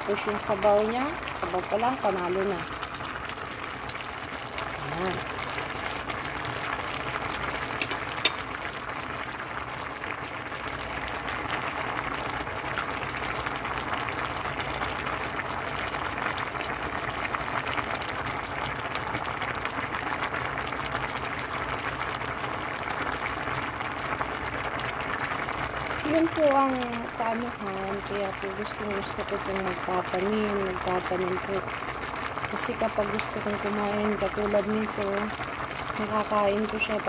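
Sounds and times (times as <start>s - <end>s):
pot of broth boiling: 0.0s - 37.0s.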